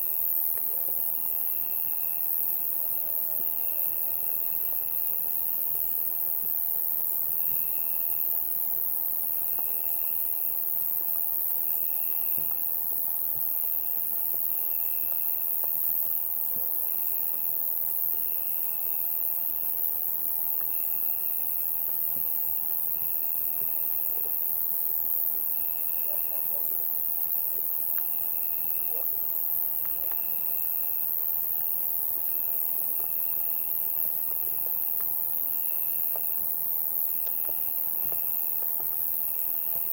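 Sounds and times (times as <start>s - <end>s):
lower insect trills: 0.0s - 39.9s.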